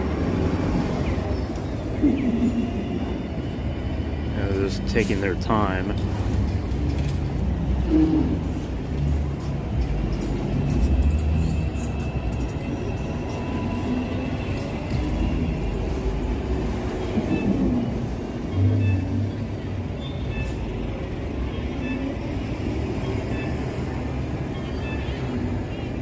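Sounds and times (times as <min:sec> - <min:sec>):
light rail train rumble: 0:00.0 - 0:26.0
street traffic: 0:00.0 - 0:26.0.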